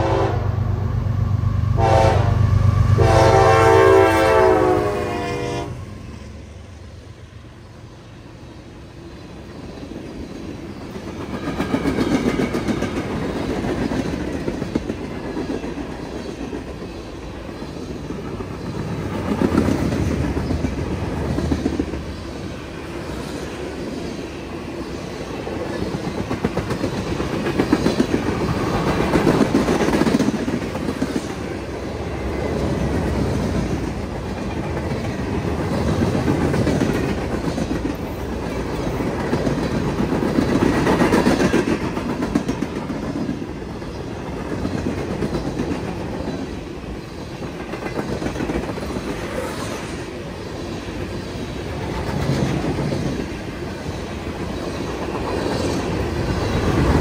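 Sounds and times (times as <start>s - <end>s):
freight train rolling past: 0.0s - 57.0s
wheels clickety-clack on rail joints: 9.1s - 57.0s.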